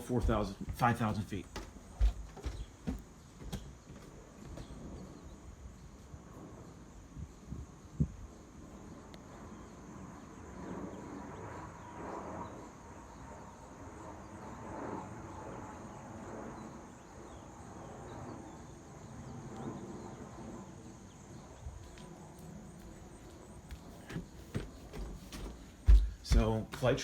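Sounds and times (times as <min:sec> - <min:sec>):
high insect drone: 0:00.0 - 0:27.0
jet airliner rumble: 0:00.0 - 0:27.0.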